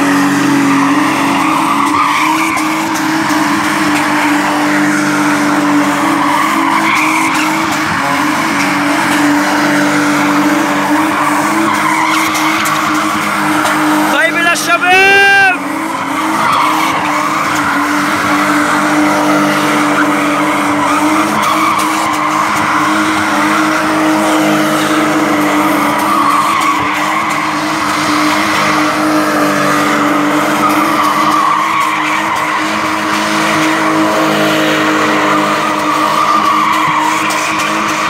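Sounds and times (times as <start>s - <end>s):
car engine at high revs: 0.0s - 38.0s
tyres screeching: 0.0s - 38.0s.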